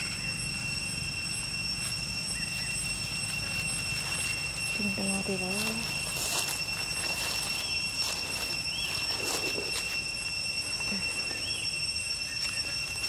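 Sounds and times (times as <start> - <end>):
faint chirps: 0.0 - 13.0
high-pitched insect drone: 0.0 - 13.0.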